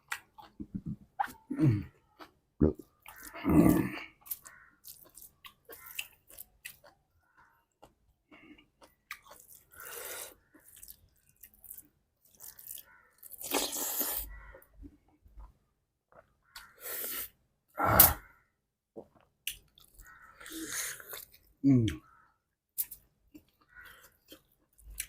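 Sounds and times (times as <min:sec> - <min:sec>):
person chewing: 0:00.0 - 0:17.4, 0:19.0 - 0:22.0, 0:22.8 - 0:25.0.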